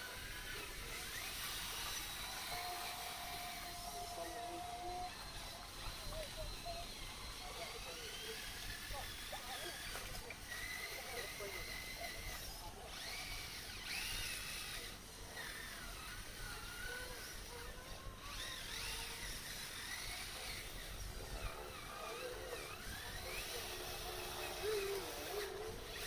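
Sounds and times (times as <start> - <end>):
high-pitched electric motor whine: 0.0 - 26.0.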